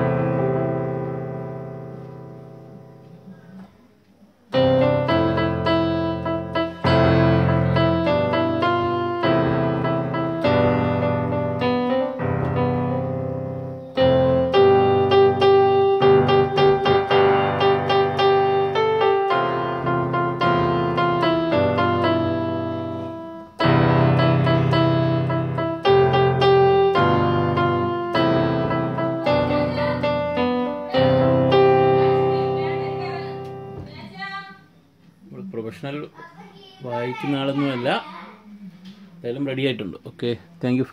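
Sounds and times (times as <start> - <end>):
keyboard piano melody: 0.0 - 34.3.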